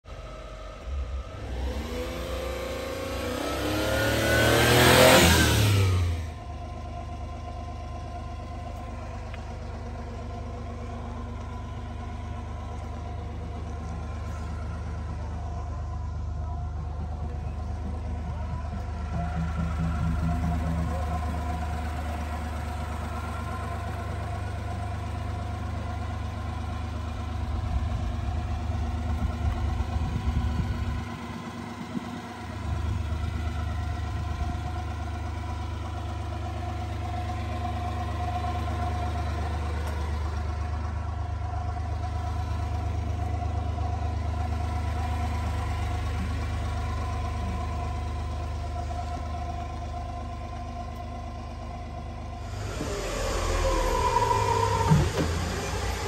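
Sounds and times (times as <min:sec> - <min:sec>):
truck engine idling: 0:00.1 - 0:56.0.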